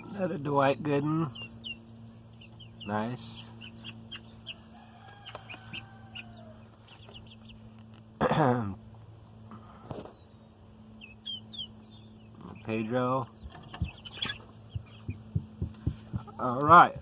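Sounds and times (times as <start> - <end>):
baby chicks peeping: 0.0 - 17.0.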